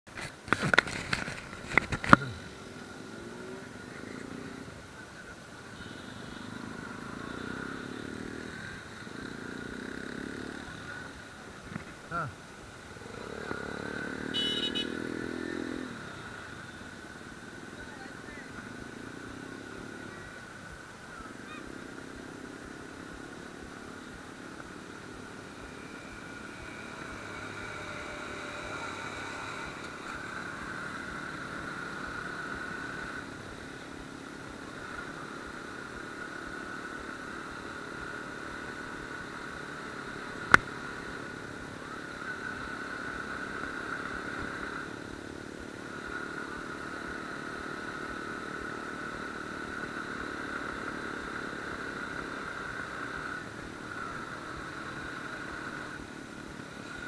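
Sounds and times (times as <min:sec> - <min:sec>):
motorcycle engine running: 0:00.2 - 0:57.0.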